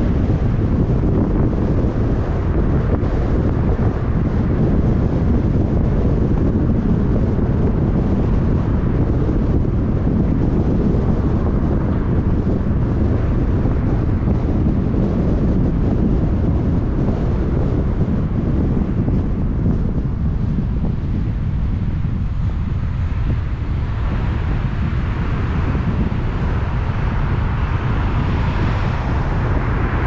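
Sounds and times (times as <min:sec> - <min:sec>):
car road noise: 0:00.0 - 0:30.0
wind buffeting microphone: 0:00.0 - 0:30.0.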